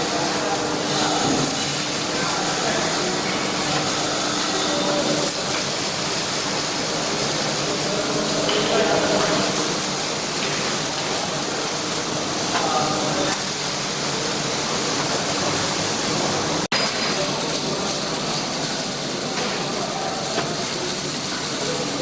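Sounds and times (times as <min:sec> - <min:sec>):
machinery running: 0:00.0 - 0:22.0
welding hiss: 0:00.0 - 0:22.0.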